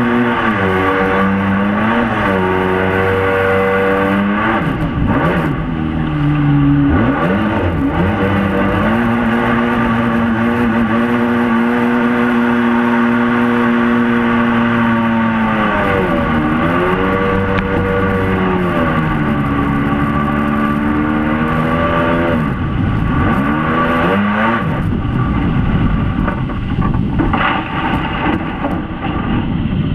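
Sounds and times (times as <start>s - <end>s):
boat engine running hard: 0.0s - 29.9s
rush of water and wind: 0.0s - 29.9s.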